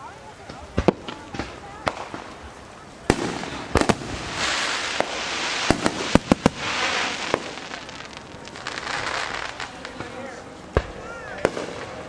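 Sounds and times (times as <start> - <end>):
crackling hissing firework stars: 0.0 - 12.0
firework bangs: 0.0 - 12.0.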